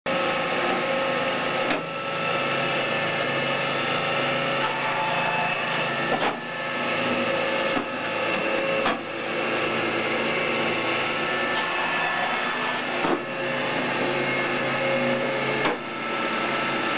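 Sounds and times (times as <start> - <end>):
hydraulic machine humming: 0.1 - 16.9.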